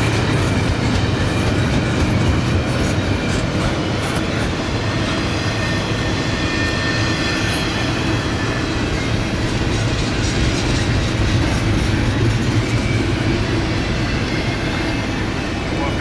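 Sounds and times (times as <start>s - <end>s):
clickety-clack over rail joints: 0.0s - 16.0s
train wheels rumbling on rail: 0.0s - 16.0s.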